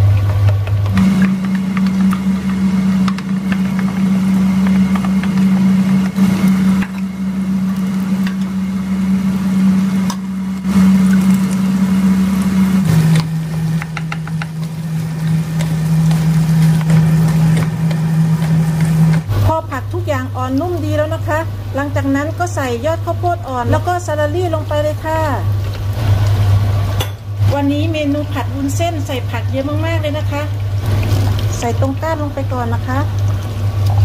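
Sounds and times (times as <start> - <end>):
frying hiss: 0.0 - 34.0
loud low hum: 0.0 - 34.0.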